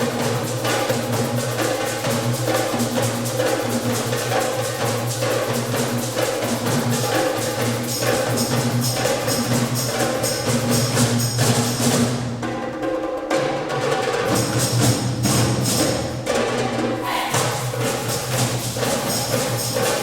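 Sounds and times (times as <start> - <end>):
percussion strikes: 0.0 - 20.0.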